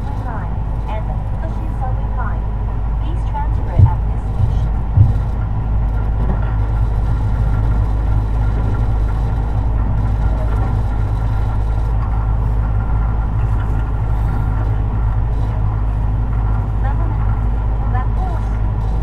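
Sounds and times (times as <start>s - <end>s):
faint steady tones: 0.0s - 19.0s
train wheels rumbling: 0.0s - 19.0s.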